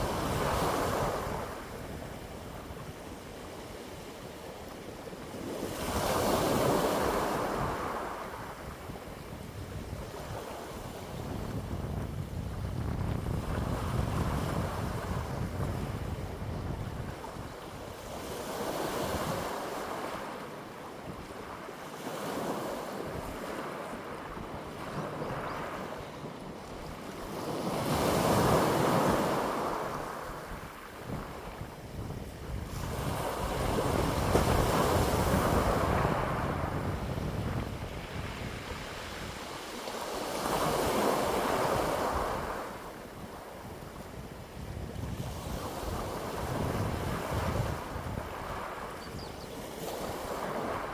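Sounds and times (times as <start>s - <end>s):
wind blowing in gusts: 0.0s - 20.4s, 21.0s - 50.9s
wind buffeting microphone: 5.5s - 20.2s, 23.0s - 39.6s, 40.3s - 50.9s.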